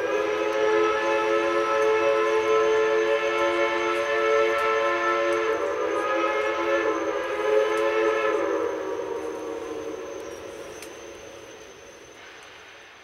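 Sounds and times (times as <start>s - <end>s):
steam locomotive whistle: 0.0s - 12.5s.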